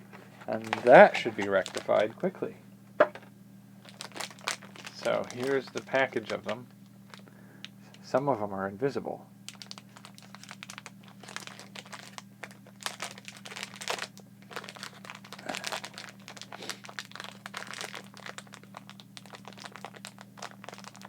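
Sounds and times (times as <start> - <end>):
low electrical hum: 0.0 - 21.0
plastic packaging crinkling: 0.1 - 2.3, 3.8 - 8.0, 9.5 - 21.0.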